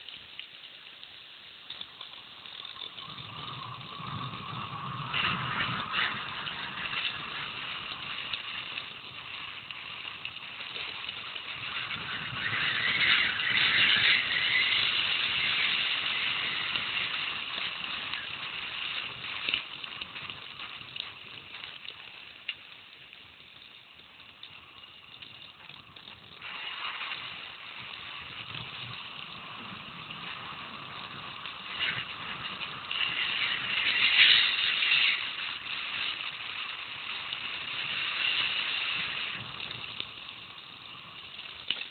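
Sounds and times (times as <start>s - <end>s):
bike tyres crunching on gravel: 0.0s - 41.9s
bike rattling over bumps: 1.7s - 22.4s, 23.6s - 41.9s.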